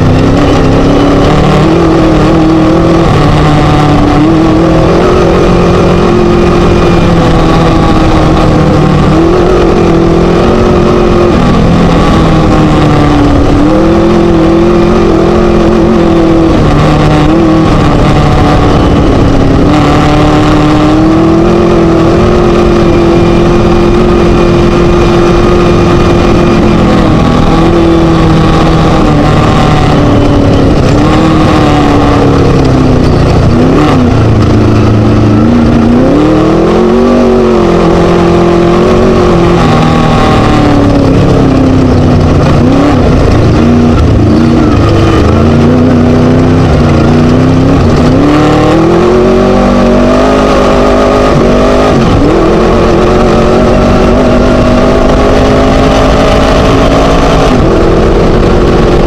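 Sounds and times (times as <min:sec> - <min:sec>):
constant noisy rush: 0:00.0 - 0:59.0
race buggy engine revving: 0:00.0 - 0:59.0.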